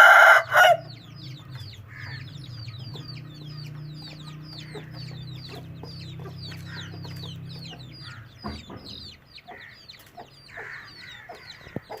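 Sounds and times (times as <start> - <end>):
bird chicks chirping: 0.0 - 12.0.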